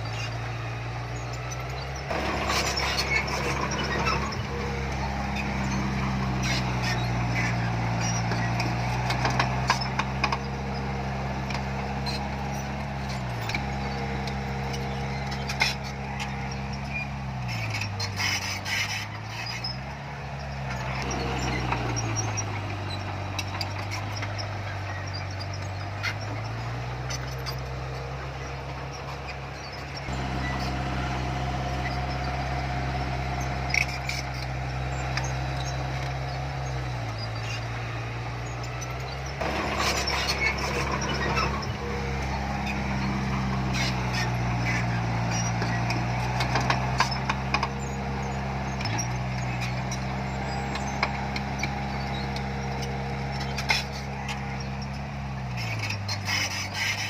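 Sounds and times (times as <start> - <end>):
heavy diesel engine: 0.0 - 57.0.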